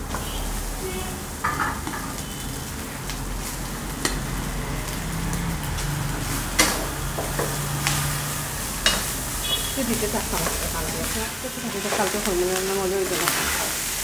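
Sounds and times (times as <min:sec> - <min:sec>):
rice and vegetables sizzling: 0:00.0 - 0:14.0.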